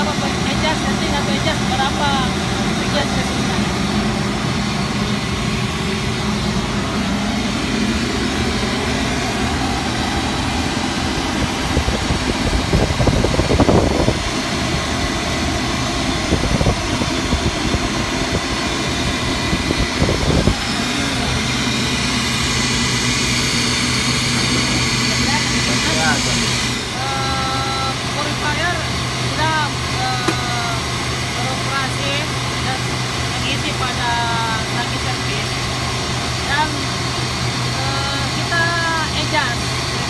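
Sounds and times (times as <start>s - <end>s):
centrifugal separator rushing: 0.0s - 40.0s
engine-room machinery drone: 0.0s - 40.0s.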